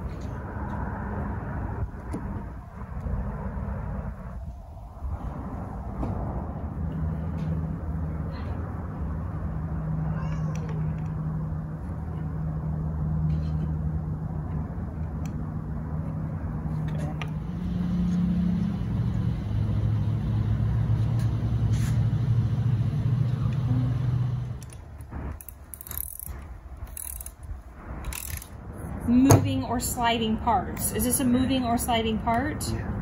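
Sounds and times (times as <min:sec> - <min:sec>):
engine humming: 0:00.0 - 0:31.5.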